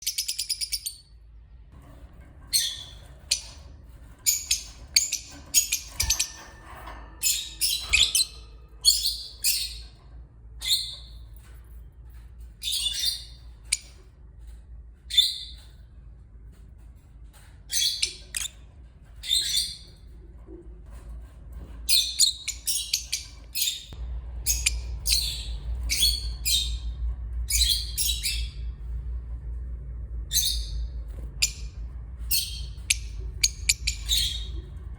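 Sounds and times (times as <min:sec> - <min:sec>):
lovebirds chirping and squawking: 0:00.0 - 0:01.2, 0:01.9 - 0:15.9, 0:17.3 - 0:20.2, 0:21.6 - 0:29.1, 0:30.2 - 0:34.9.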